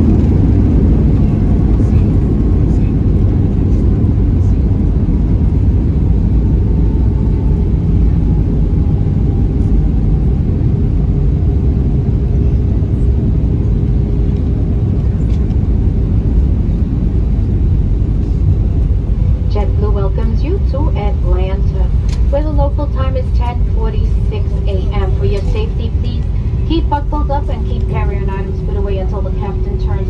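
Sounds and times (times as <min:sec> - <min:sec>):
vehicle rumble: 0:00.0 - 0:30.0.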